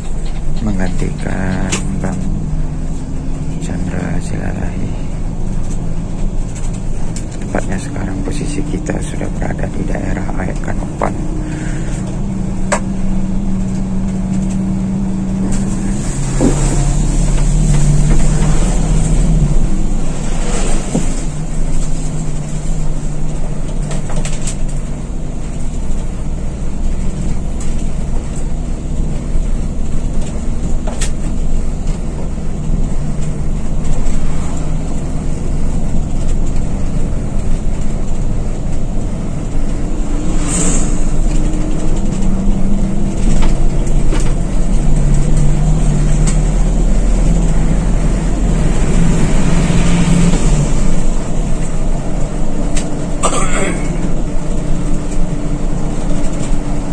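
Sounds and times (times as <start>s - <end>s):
bus diesel engine droning: 0.0s - 56.9s
road noise: 0.0s - 56.9s.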